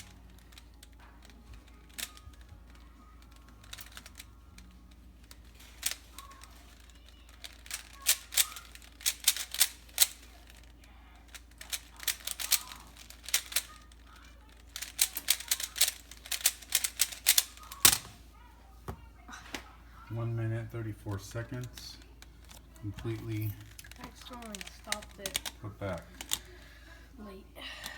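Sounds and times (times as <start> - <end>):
puzzle cube plastic clicks: 0.0 - 18.1, 21.1 - 26.7.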